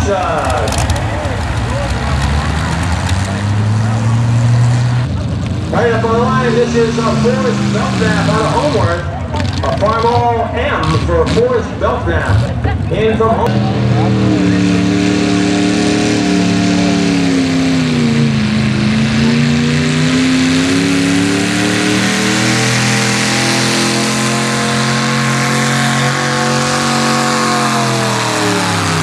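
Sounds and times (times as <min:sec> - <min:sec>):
pulling tractor engine revving: 0:00.0 - 0:29.0.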